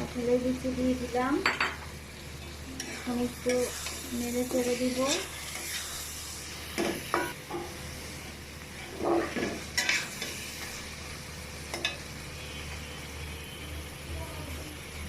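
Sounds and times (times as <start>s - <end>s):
sizzling in a frying pan: 0.0s - 15.0s.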